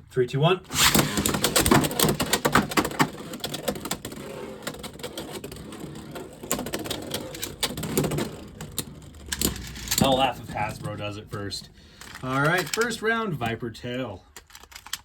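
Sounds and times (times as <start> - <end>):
spinning tops clashing and rattling: 0.8 - 13.1.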